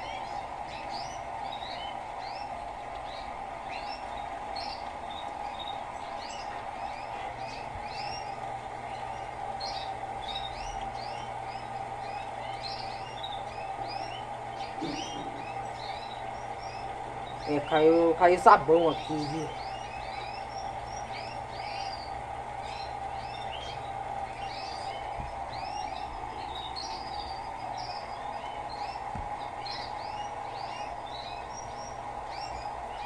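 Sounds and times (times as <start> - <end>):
birds chirping: 0.0 - 33.0
washing machine filling hum: 0.0 - 33.0.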